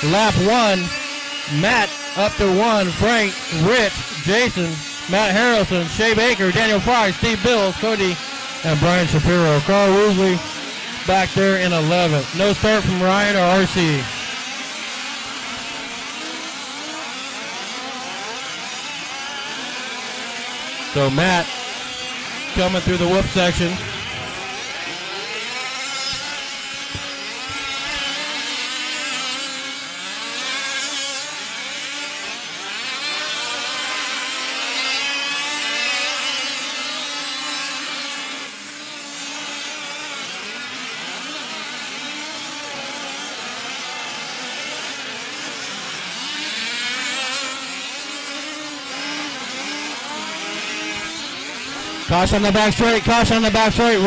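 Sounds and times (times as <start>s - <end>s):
small two-stroke engines buzzing: 0.0s - 54.0s.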